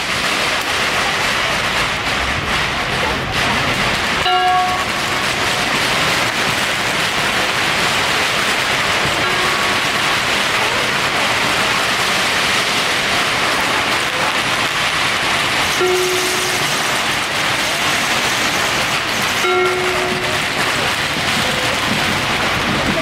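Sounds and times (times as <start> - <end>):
firecrackers crackling: 0.0 - 23.0.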